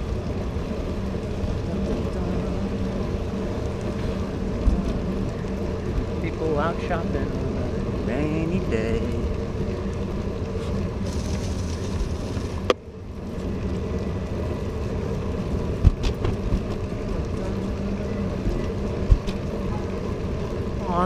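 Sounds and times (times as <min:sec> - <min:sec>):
bike tyres rolling on wet asphalt: 0:00.0 - 0:21.0.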